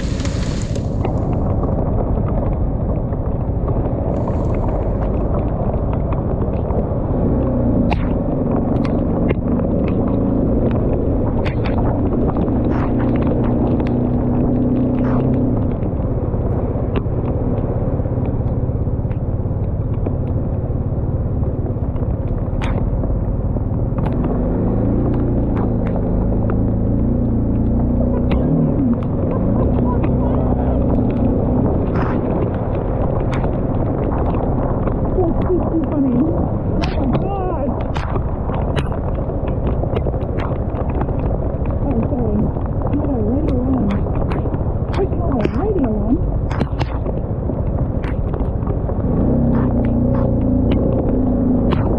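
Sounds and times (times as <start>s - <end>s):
motorcycle engine accelerating: 0.0s - 51.9s
wind and road noise: 0.0s - 51.9s
sharp ticks: 3.7s - 51.9s.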